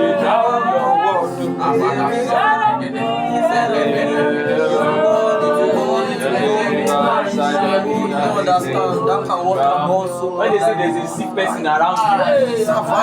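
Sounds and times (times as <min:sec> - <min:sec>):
man singing gospel melody: 0:00.0 - 0:13.0.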